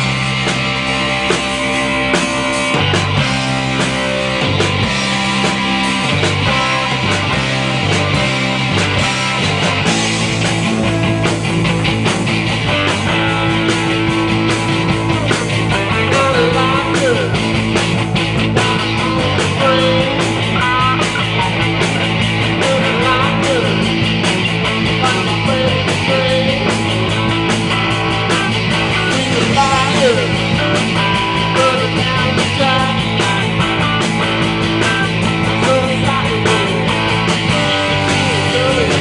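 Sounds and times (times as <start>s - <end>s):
drum kit beat: 0.0s - 39.0s
electric guitars: 0.0s - 39.0s
lead guitar bending notes: 0.0s - 39.0s.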